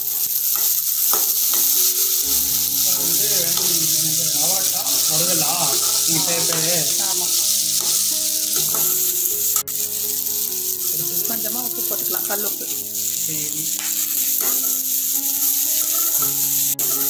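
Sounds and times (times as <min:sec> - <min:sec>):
beans sizzling in hot oil: 0:00.0 - 0:17.0
metal spatula stirring: 0:00.0 - 0:17.0.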